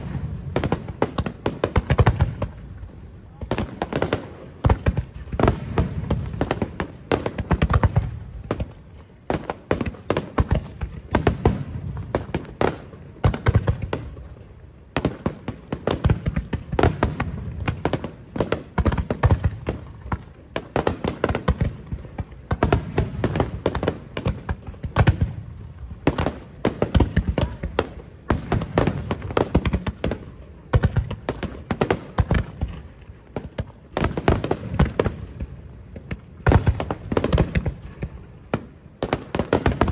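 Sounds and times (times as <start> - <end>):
fireworks bangs and booms: 0.0 - 39.9.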